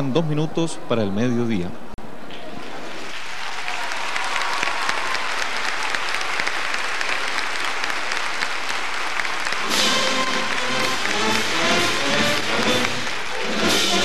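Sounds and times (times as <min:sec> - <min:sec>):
crowd applauding: 0:02.6 - 0:14.0.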